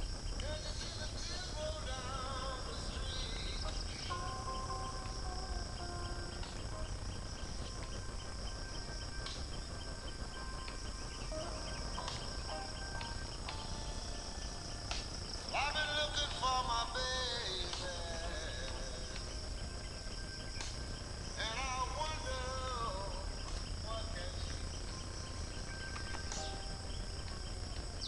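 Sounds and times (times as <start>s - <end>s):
crickets chirping: 0.0s - 28.0s
held musical tones: 0.0s - 28.0s.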